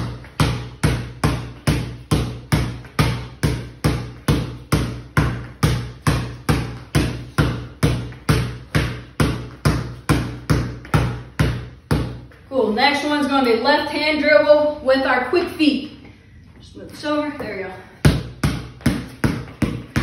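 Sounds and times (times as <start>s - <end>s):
basketball bouncing on concrete: 0.0s - 13.9s, 16.9s - 20.0s.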